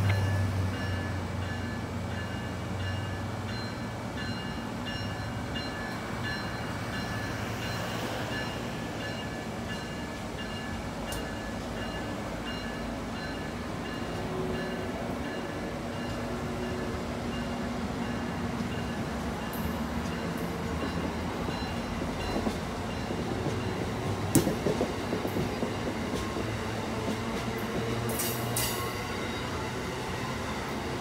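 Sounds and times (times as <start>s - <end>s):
train wheels rushing on rail: 0.0s - 31.0s.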